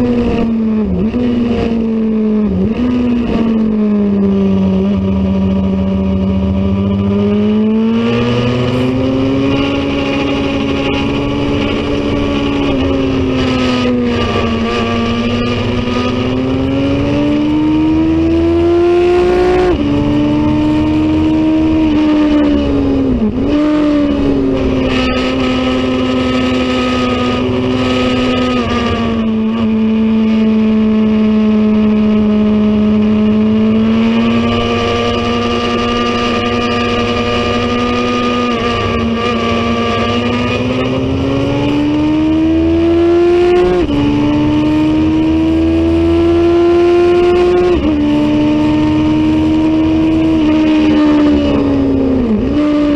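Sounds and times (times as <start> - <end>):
racing motorcycle engine: 0.0 - 52.9.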